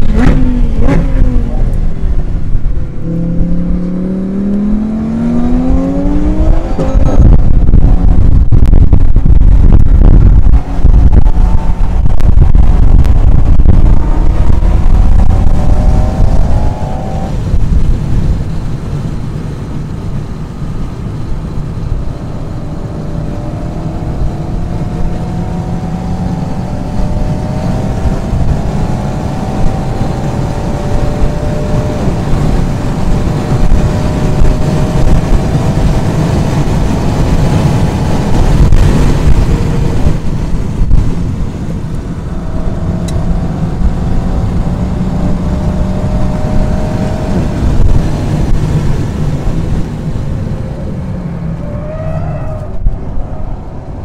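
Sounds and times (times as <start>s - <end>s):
car engine accelerating: 0.0s - 54.0s
road and tyre rumble: 0.0s - 54.0s.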